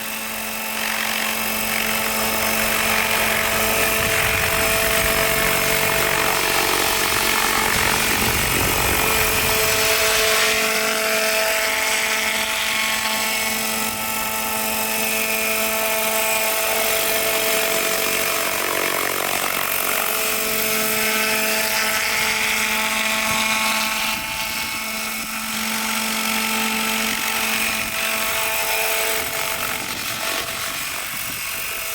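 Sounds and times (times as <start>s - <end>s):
model helicopter whine: 0.0s - 31.9s.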